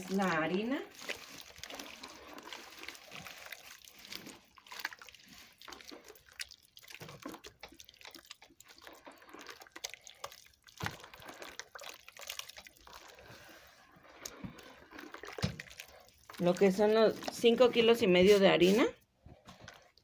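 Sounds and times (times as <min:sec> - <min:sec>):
hands squelching in wet mix: 0:00.0 - 0:20.0.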